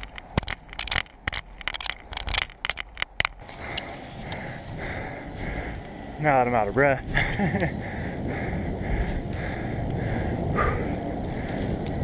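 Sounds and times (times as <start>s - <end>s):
bicycle crackling and scraping clicks: 0.0s - 12.0s
bicycle tyres rolling: 0.0s - 12.0s.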